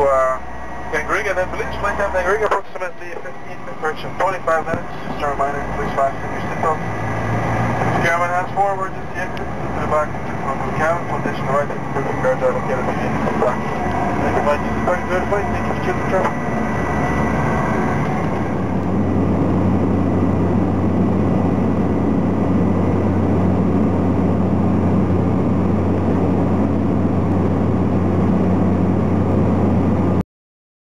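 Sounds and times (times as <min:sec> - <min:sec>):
plane engine droning in cabin: 0:00.0 - 0:30.2.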